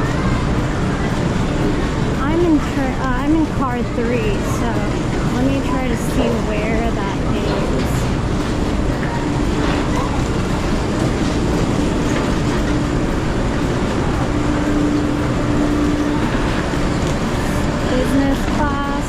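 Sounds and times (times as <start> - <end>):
droning tone: 0.0 - 19.0
train rumbling and humming: 0.0 - 19.0.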